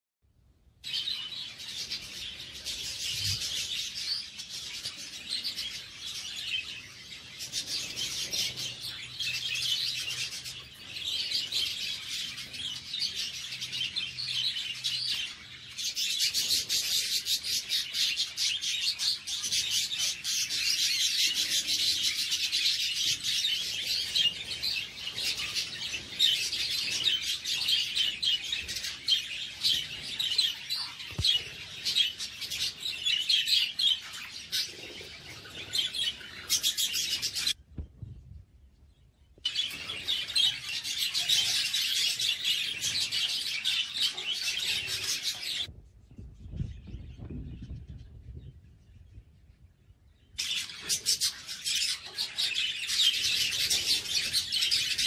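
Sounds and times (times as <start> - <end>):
budgerigars chirping and chattering: 0.9 - 37.6, 39.5 - 45.7, 50.4 - 55.0.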